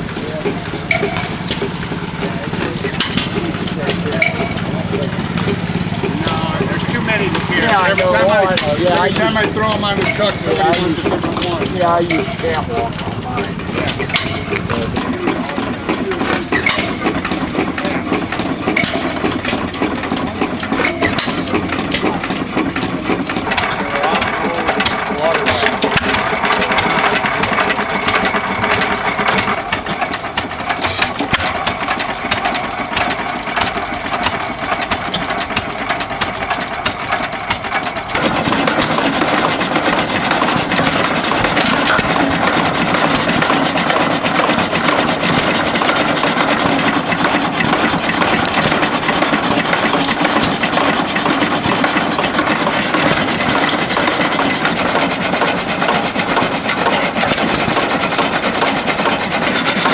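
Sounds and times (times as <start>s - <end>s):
stationary engines clattering: 0.0s - 59.9s.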